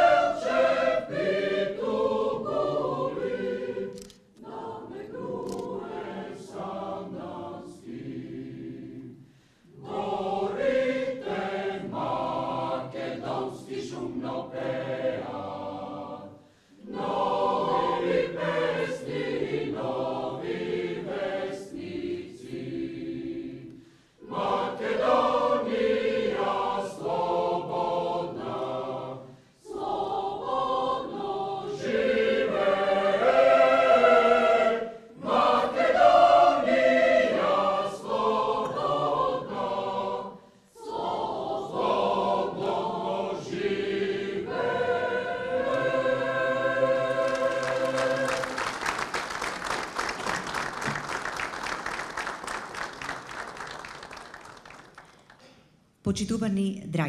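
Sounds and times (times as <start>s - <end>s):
mixed choir singing: 0.0s - 54.4s.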